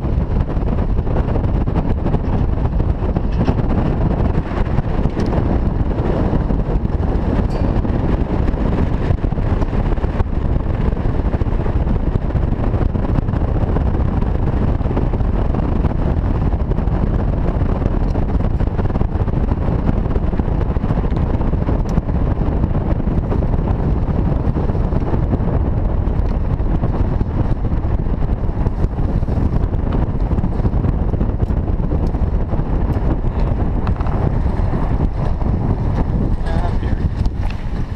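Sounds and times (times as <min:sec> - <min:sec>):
truck rumbling on gravel road: 0:00.0 - 0:37.9
wind buffeting microphone: 0:00.0 - 0:37.9.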